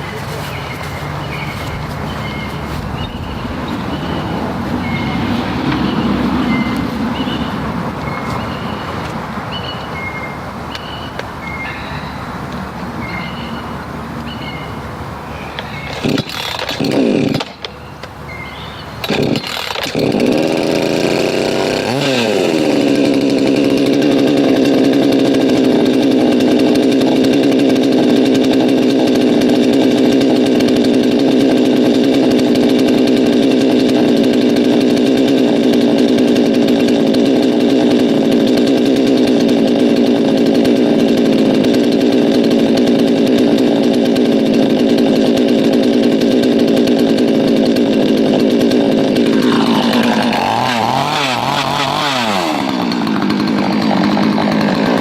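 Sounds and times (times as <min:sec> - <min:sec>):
chainsaw cutting wood: 0:00.0 - 0:11.4, 0:12.4 - 0:55.0.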